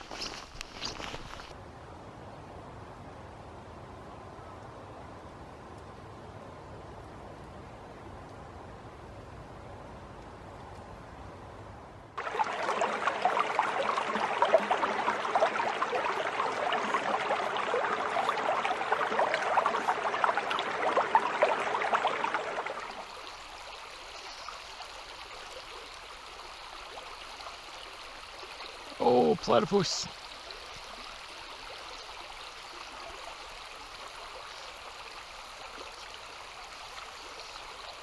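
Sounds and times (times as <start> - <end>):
shallow river water babbling: 0.0 - 1.6, 2.3 - 38.0.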